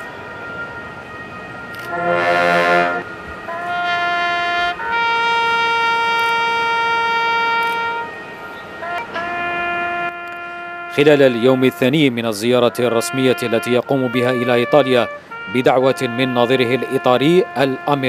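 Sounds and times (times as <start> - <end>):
solo trumpet call: 1.7 - 18.0.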